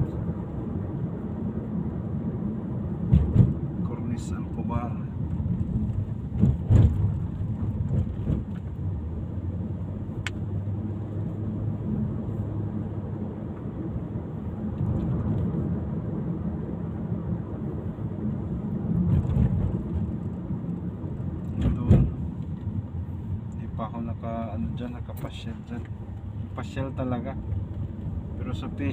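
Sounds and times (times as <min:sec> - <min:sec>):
car engine hum: 0:00.0 - 0:28.9
road rumble: 0:00.0 - 0:28.9.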